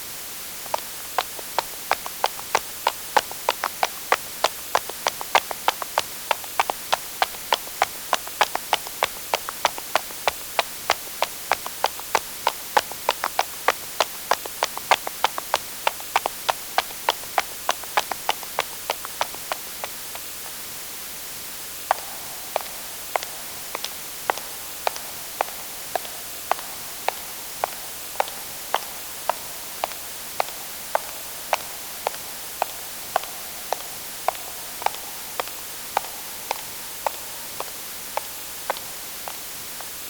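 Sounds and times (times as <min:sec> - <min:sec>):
constant hiss: 0:00.0 - 0:40.0.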